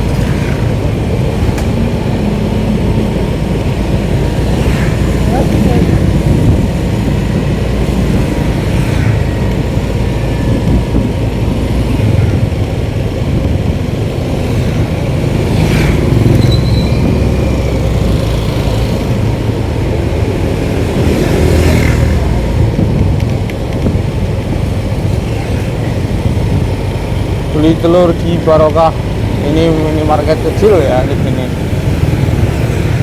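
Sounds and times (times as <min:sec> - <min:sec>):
road vehicle rumble: 0:00.0 - 0:33.0.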